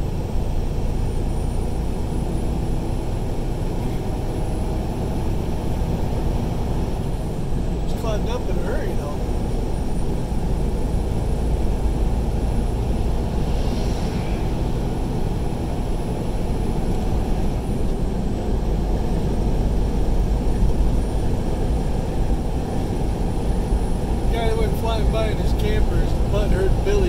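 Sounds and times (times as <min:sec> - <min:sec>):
diesel truck engine rumble: 0:00.0 - 0:27.0.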